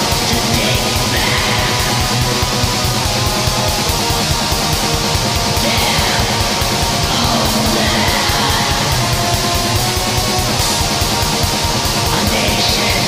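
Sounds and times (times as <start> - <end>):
distorted electric guitars: 0.0 - 13.0
fast drumming: 0.0 - 13.0.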